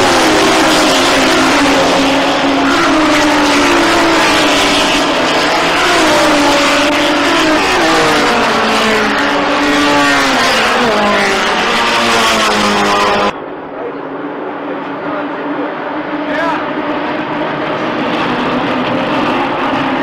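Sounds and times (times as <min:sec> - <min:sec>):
racing car engines at high revs: 0:00.0 - 0:20.0.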